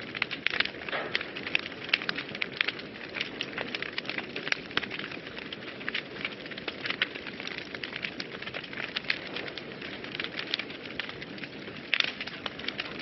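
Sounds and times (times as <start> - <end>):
fire crackling and popping: 0.0 - 13.0
low rush of flame: 0.0 - 13.0.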